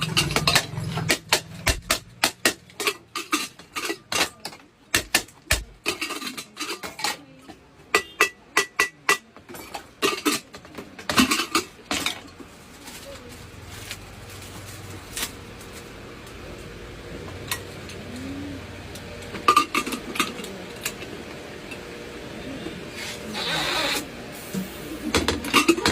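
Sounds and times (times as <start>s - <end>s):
hard objects clinking and clattering: 0.0s - 21.9s, 25.0s - 25.9s.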